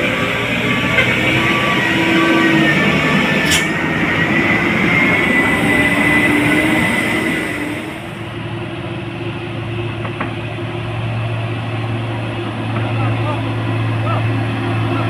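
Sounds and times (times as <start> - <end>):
diesel truck engines whining: 0.0 - 15.0.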